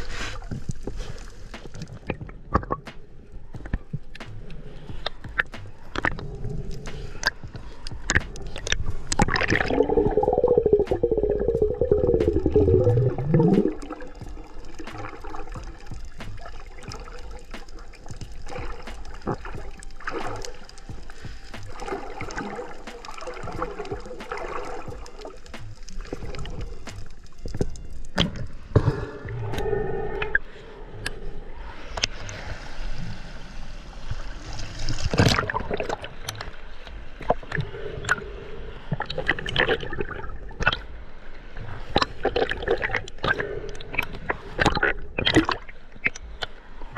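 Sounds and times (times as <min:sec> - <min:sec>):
water gurgling and sloshing: 0:00.0 - 0:46.9.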